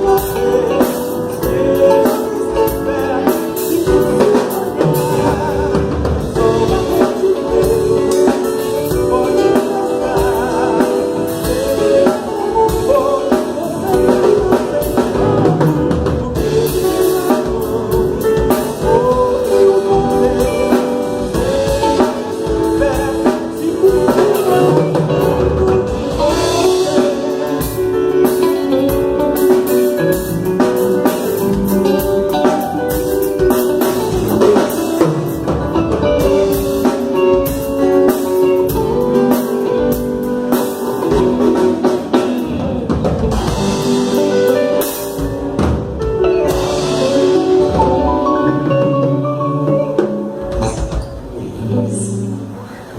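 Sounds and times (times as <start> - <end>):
person singing: 0.0 - 52.7
drum kit: 0.0 - 52.9
guitar: 0.0 - 52.9
live band playing: 0.0 - 52.9.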